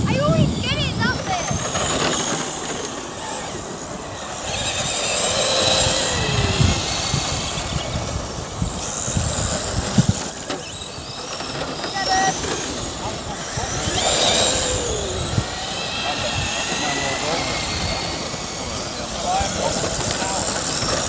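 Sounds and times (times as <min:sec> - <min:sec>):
model buggy motors whining: 0:00.0 - 0:21.0.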